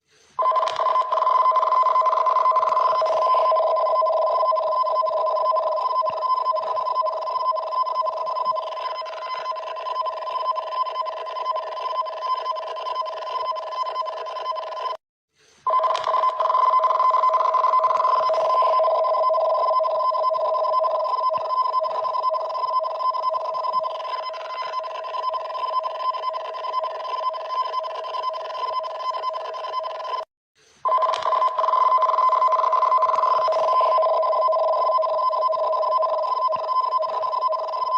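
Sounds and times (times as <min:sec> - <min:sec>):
fluttering two-tone alert alarm: 0:00.4 - 0:15.0, 0:15.7 - 0:37.9.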